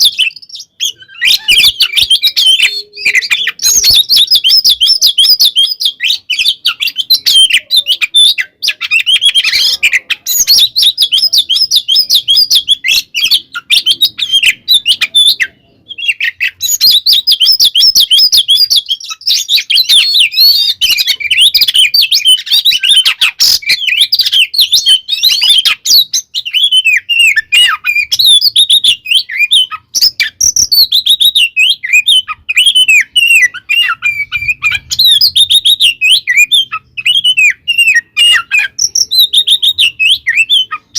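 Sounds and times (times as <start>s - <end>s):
bird singing chirps and whistles: 0.0s - 40.9s.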